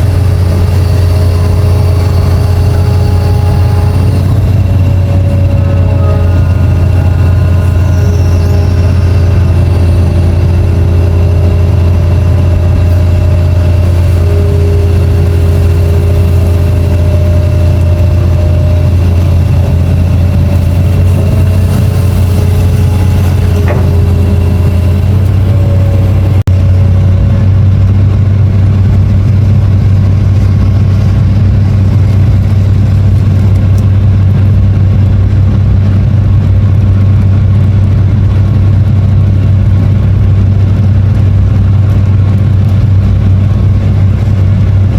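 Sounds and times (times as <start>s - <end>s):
high whining tones: 0.0s - 36.7s
excavator diesel engine drone: 0.0s - 44.9s.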